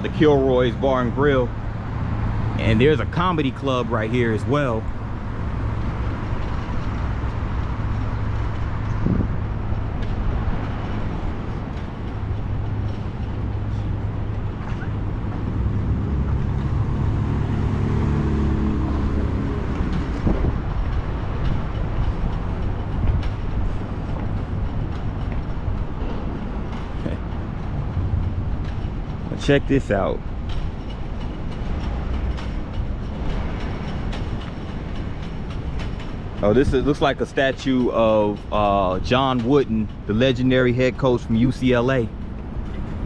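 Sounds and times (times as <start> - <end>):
passing cars rumble: 0.0 - 43.0
vehicle engine hum: 0.0 - 43.0.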